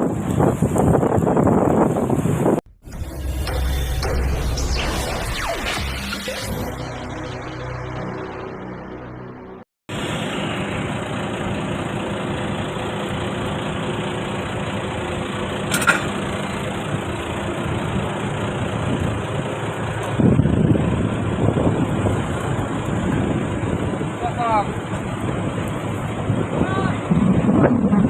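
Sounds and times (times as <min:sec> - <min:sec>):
heavy diesel engine running: 0:00.0 - 0:05.5, 0:06.7 - 0:28.0.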